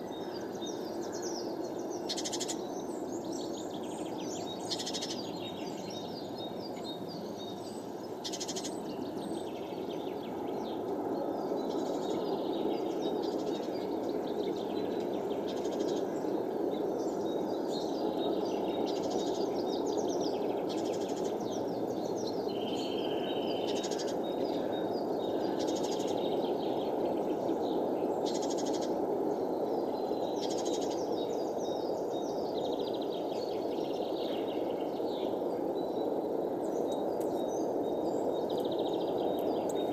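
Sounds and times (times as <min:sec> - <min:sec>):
low rushing background noise: 0:00.0 - 0:39.9
songbirds chirping: 0:00.0 - 0:39.9.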